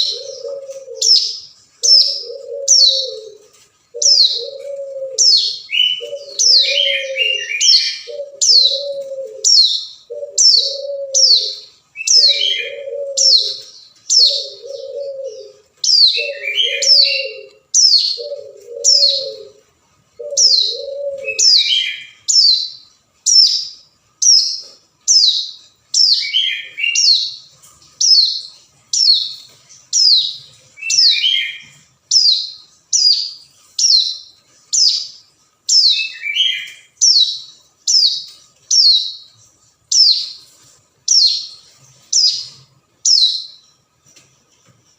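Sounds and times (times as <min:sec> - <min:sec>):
prinia calling song: 0:00.0 - 0:44.2.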